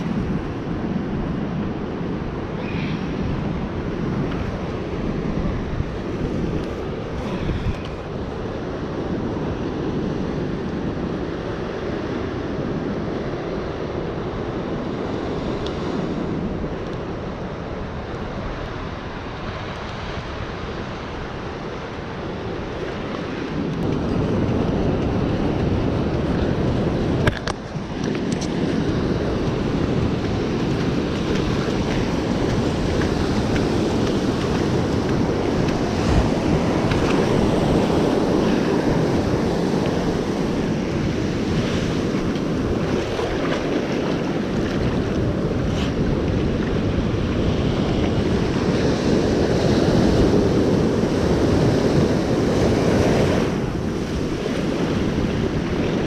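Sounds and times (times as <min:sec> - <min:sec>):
ocean surf on beach: 0:00.0 - 0:56.0
wind buffeting microphone: 0:00.0 - 0:56.0.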